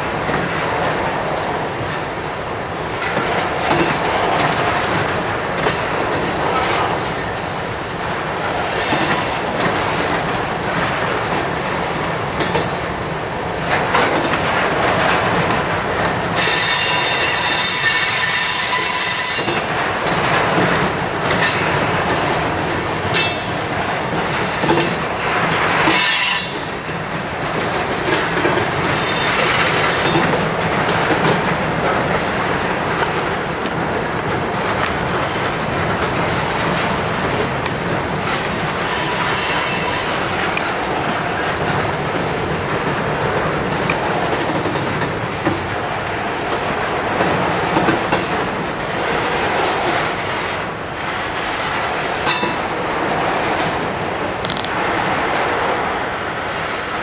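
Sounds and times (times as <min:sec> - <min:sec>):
train wheels rumbling and rattling: 0:00.0 - 0:57.0.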